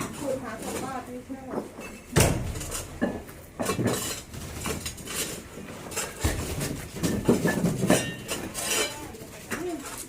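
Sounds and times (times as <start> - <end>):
tools knocking and scraping: 0.0 - 10.0.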